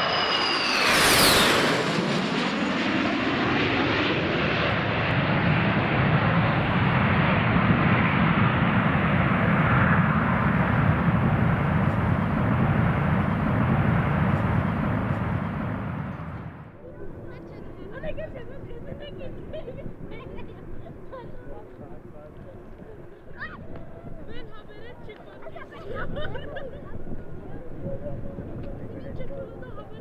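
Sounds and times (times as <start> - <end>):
jet deep rumbling roar: 0.0 - 30.0
jet engine whine: 0.0 - 30.0.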